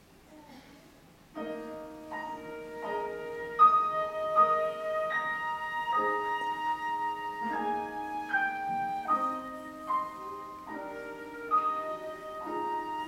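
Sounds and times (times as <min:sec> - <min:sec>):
orchestra with piano playing chords: 0:01.3 - 0:13.0.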